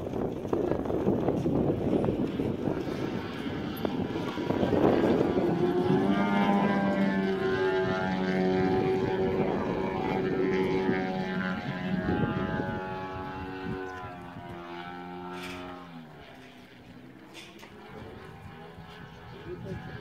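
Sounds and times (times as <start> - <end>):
model plane engine and propeller: 0.0 - 20.0.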